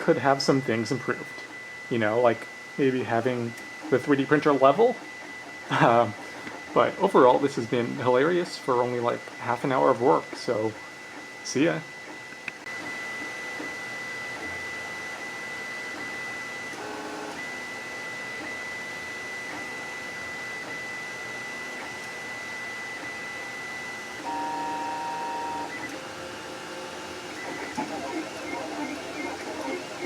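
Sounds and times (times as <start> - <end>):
printer stepper motors whining: 0.0 - 30.0.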